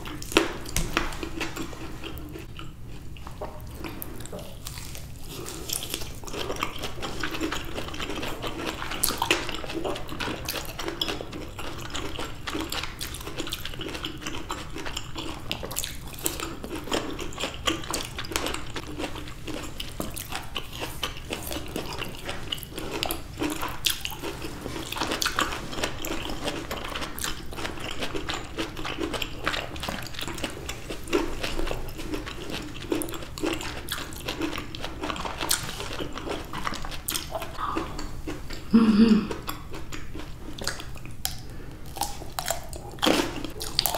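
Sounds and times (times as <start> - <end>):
person chewing orange: 0.0 - 43.9.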